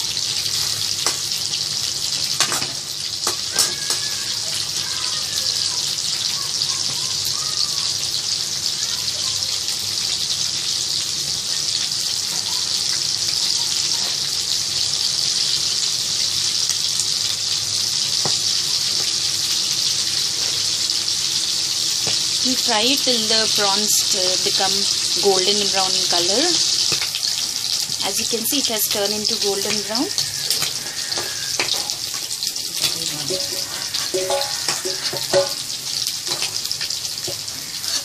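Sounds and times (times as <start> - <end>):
prawns deep-frying in hot oil: 0.0 - 38.0.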